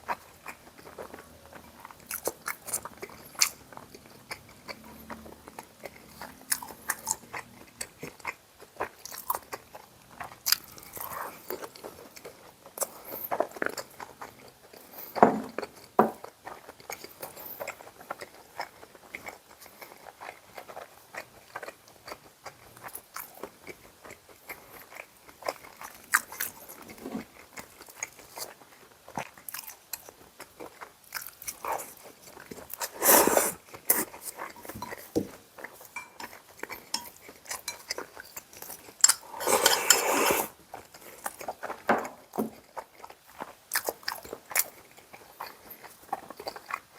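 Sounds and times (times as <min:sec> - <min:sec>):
chewing and biting food: 0:00.0 - 0:46.9.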